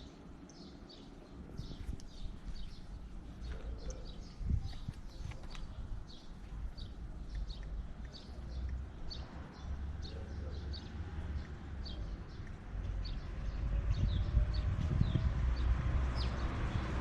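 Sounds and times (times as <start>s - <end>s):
small bird chirping: 0.4s - 14.4s
steady low rumble: 1.2s - 17.0s.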